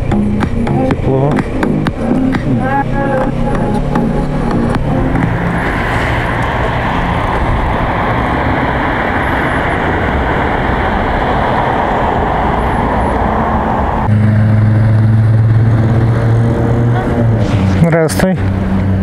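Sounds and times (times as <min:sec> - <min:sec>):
motorcycle engine hum: 0:00.0 - 0:17.6, 0:18.4 - 0:19.0
wind rush on microphone: 0:01.0 - 0:19.0.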